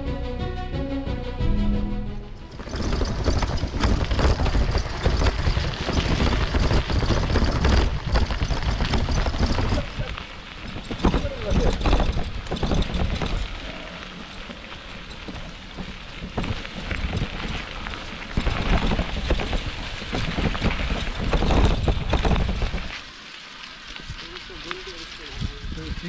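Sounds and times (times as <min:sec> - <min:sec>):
wind buffeting microphone: 0:02.4 - 0:23.0, 0:24.0 - 0:26.0
bicycle tyres on gravel: 0:02.4 - 0:26.0.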